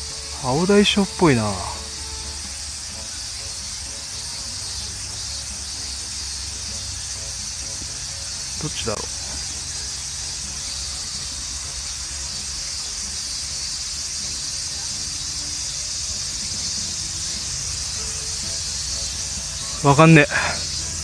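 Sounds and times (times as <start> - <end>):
high-pitched hiss: 0.0 - 21.0.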